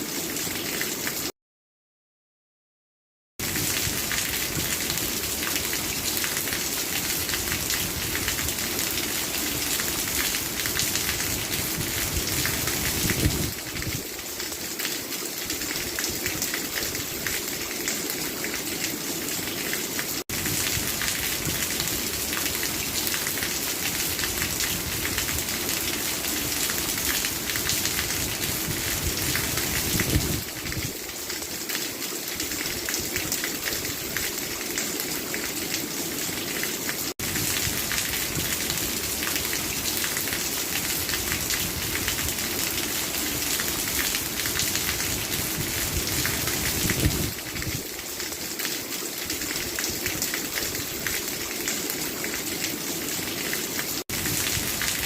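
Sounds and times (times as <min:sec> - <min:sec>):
heavy rain falling: 0:03.4 - 0:55.0.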